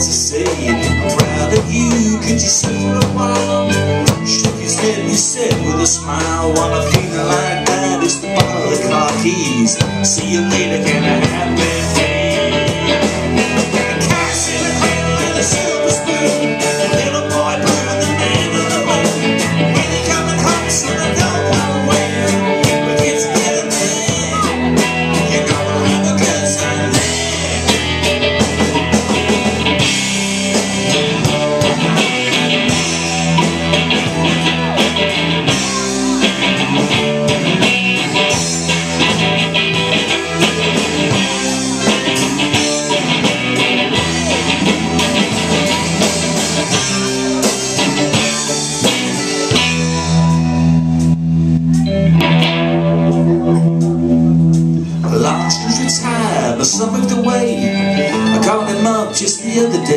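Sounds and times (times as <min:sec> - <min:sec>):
drum kit: 0:00.0 - 0:59.9
electric bass guitar: 0:00.0 - 0:59.9
electric guitar: 0:00.0 - 0:59.9.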